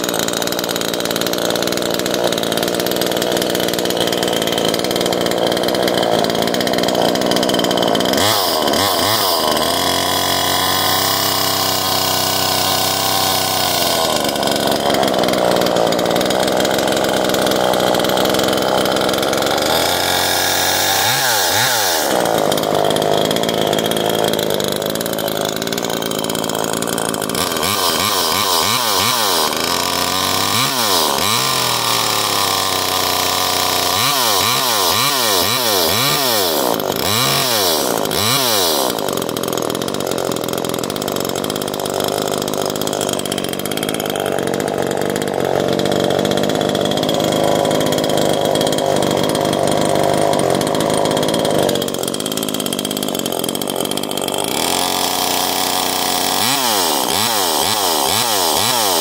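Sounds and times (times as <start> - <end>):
chainsaw running and revving: 0.0 - 59.0.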